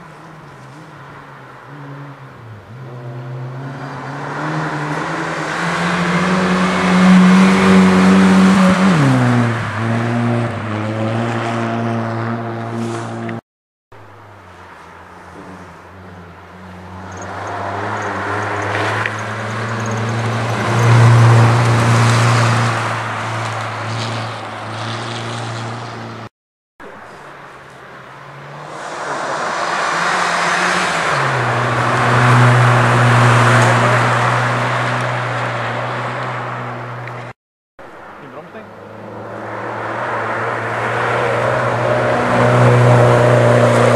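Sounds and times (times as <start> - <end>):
rally car engine passing: 0.2 - 13.4, 14.4 - 26.3, 26.9 - 37.3, 38.0 - 43.9.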